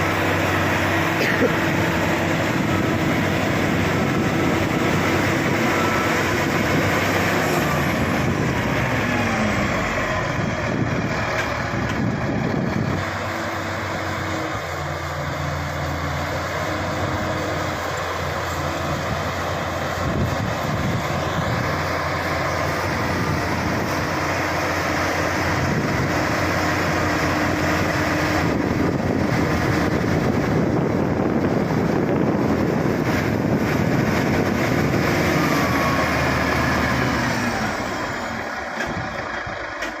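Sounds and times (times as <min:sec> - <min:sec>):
bulldozer diesel engine drone: 0:00.0 - 0:40.0.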